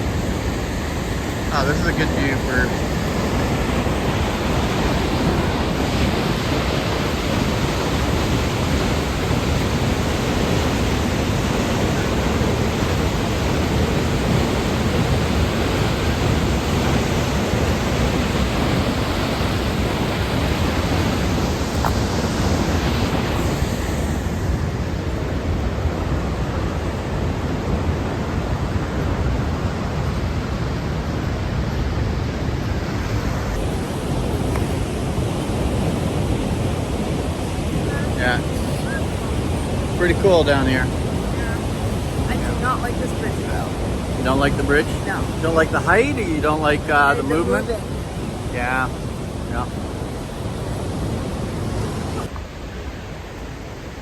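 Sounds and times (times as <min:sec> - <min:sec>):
rushing water roar: 0:00.0 - 0:54.0.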